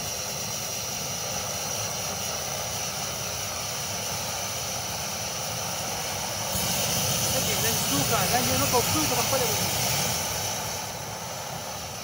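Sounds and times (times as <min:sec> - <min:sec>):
camp stove burner hissing: 0:00.0 - 0:12.0.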